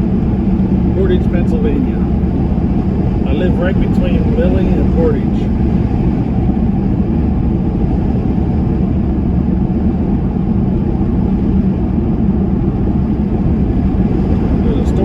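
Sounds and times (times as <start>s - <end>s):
pickup truck engine cruising: 0.0s - 15.0s
road rumble from tyres: 0.0s - 15.0s.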